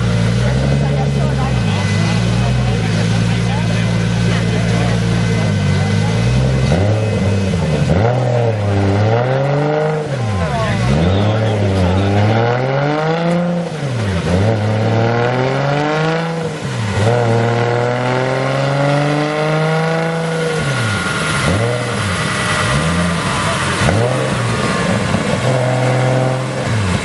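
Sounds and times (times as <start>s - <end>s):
car engine revving hard: 0.0s - 27.0s.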